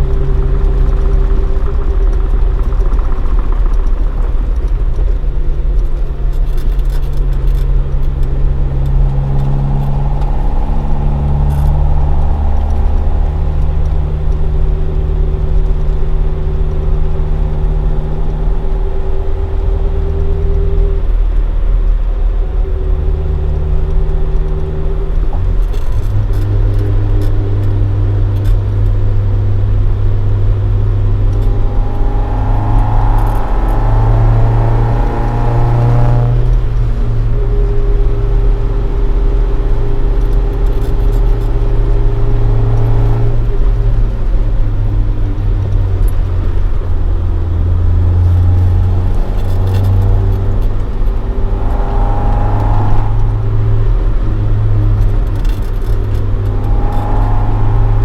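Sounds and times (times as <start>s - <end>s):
car engine revving while driving: 0.0s - 58.0s.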